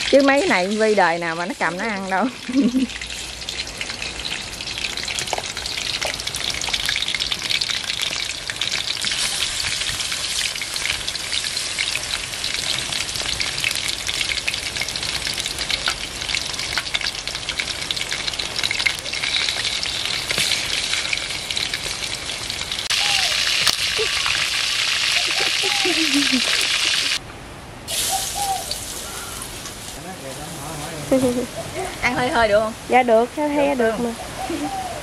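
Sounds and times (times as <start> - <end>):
chicken frying in hot oil: 0.0 - 27.2, 27.9 - 30.0.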